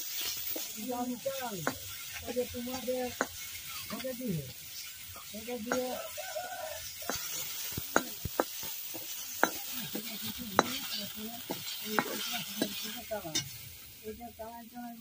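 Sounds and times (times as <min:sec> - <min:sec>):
utensil scraping a pan: 0:00.0 - 0:13.8
curry sizzling in a pan: 0:00.0 - 0:15.0.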